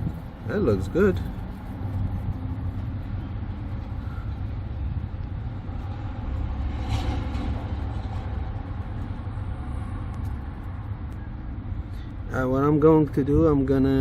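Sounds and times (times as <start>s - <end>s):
low background rumble: 0.0s - 13.8s.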